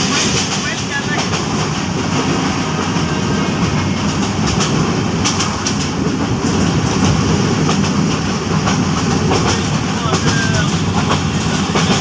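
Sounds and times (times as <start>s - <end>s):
train carriages rumbling: 0.0s - 12.0s
train wheels clacking: 0.0s - 12.0s.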